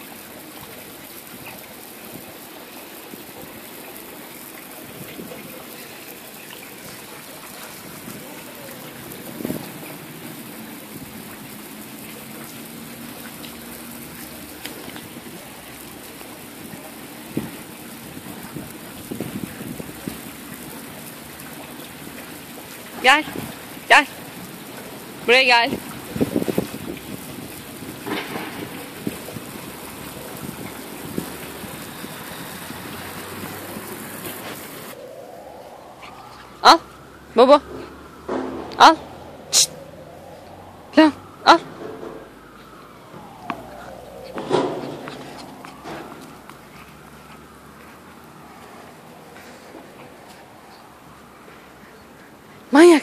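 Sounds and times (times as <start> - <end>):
running water hiss: 0.0 - 53.0.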